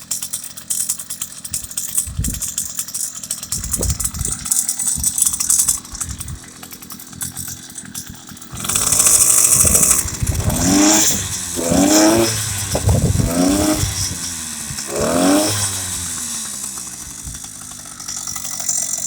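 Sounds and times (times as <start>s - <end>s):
small two-stroke engine idling: 0.0s - 19.0s.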